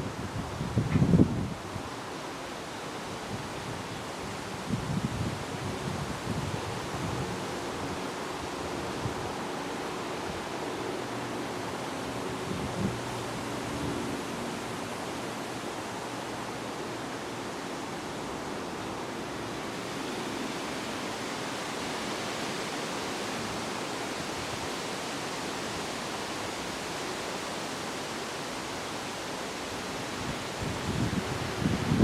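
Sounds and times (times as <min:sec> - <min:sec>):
steady rushing wind: 0:00.0 - 0:32.0.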